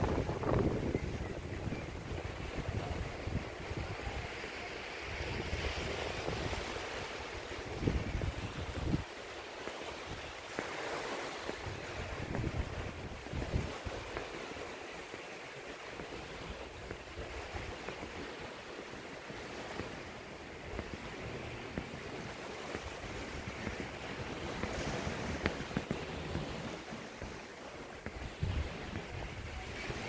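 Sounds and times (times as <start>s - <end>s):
wind buffeting microphone: 0.0s - 9.2s, 10.0s - 14.6s, 16.0s - 30.0s
surf washing onto beach: 0.0s - 30.0s.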